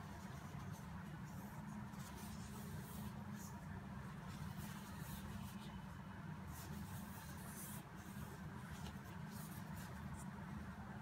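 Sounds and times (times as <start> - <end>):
gloved fingers rustling on cardboard: 0.0 - 5.8, 6.4 - 10.6
steady low hum: 0.0 - 11.0.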